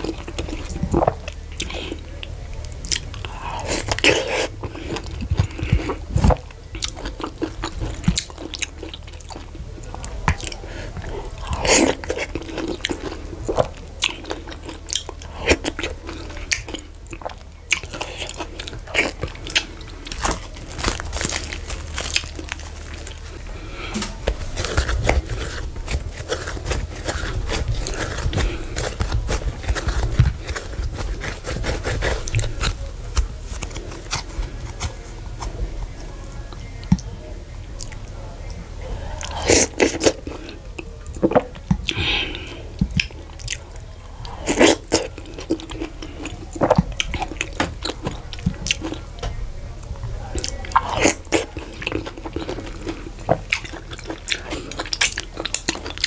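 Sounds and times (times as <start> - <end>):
wet chewing and biting: 0.0 - 37.1, 39.0 - 49.4, 50.4 - 56.0.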